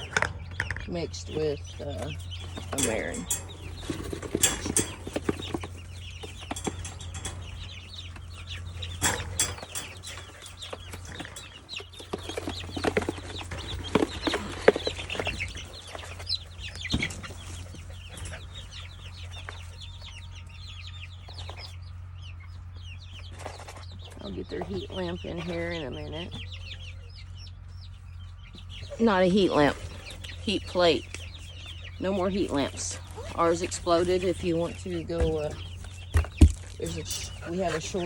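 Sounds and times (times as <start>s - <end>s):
chicks peeping: 0.0s - 38.0s
steady low hum: 0.0s - 38.0s.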